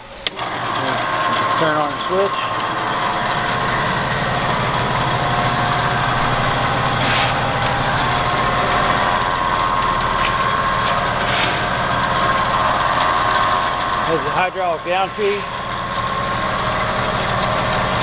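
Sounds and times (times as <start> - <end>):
band saw motor humming: 0.0 - 18.0.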